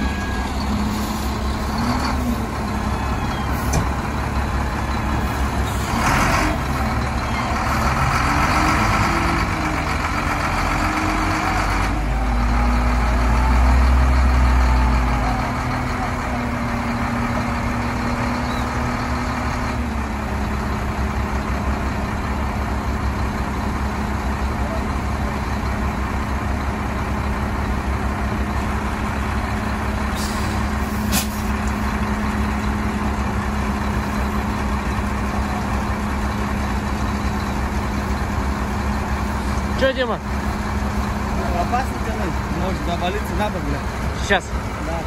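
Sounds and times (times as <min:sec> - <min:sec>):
wheel loader engine revving: 0:00.0 - 0:45.0.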